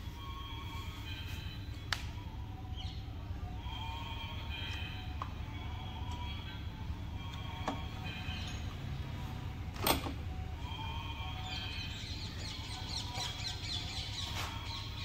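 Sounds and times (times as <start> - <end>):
steady low hum: 0.0 - 15.0
birds chirping: 0.2 - 9.7, 10.3 - 15.0.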